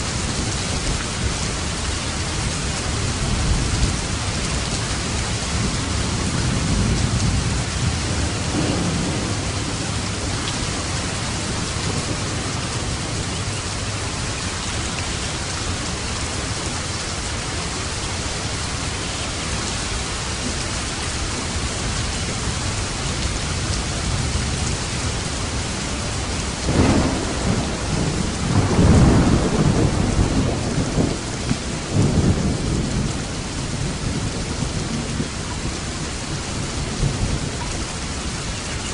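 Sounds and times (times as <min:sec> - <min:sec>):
heavy rain: 0:00.0 - 0:38.9
thunder rumbles: 0:02.6 - 0:38.3.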